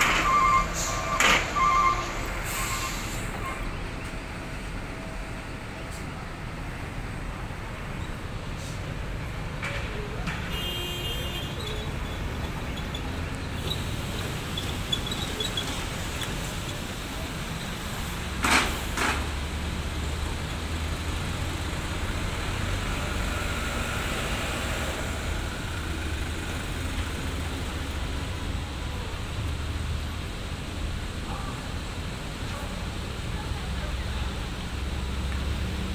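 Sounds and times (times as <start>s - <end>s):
vehicle engines idling: 0.0s - 35.9s.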